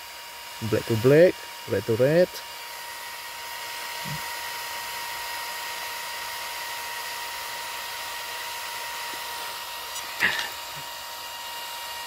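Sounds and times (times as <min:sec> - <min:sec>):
small cooling fan whirring: 0:00.0 - 0:12.0.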